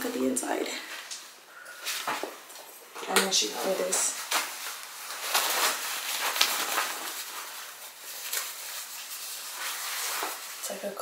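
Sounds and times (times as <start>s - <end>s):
garment rustling crinkly: 0.0s - 11.0s.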